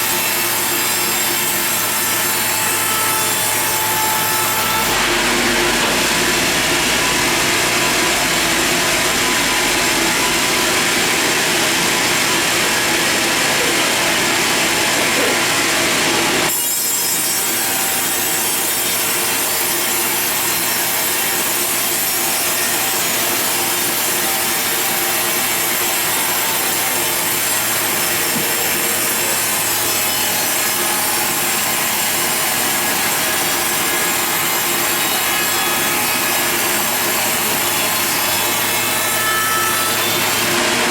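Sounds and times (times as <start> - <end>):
saw cutting through log: 0.0 - 40.9.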